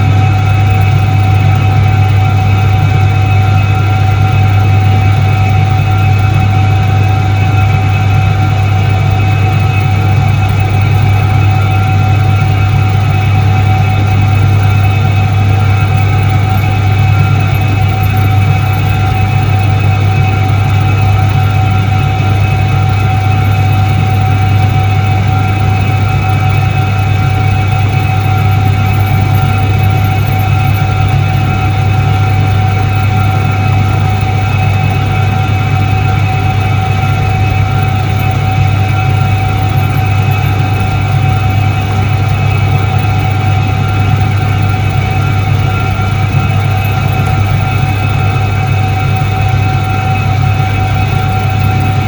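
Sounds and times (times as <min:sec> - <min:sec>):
high-pitched whine: 0:00.0 - 0:52.0
washing machine motor humming: 0:00.0 - 0:52.0.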